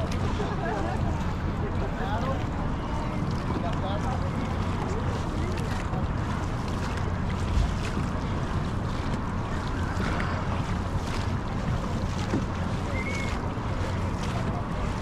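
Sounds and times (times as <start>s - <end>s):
water washing around boat: 0.0s - 15.0s.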